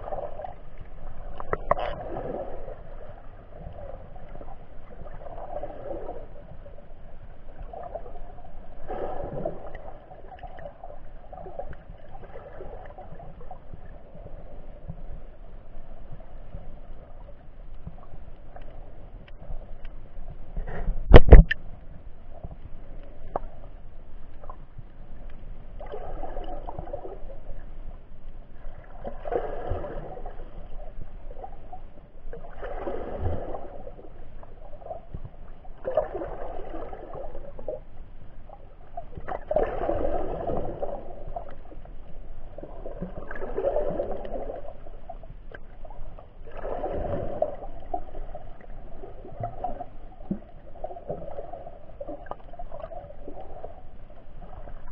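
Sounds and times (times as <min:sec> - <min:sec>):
underwater noise: 0:00.0 - 0:54.9.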